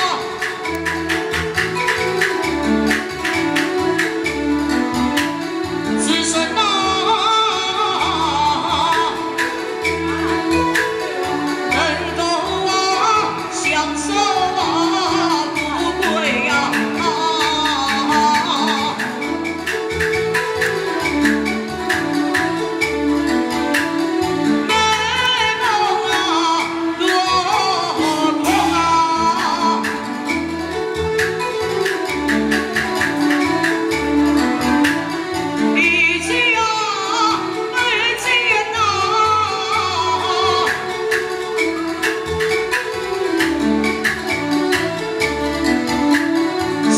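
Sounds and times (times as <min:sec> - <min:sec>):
amplified instrumental accompaniment: 0:00.0 - 0:46.9
percussion beats: 0:00.0 - 0:46.9.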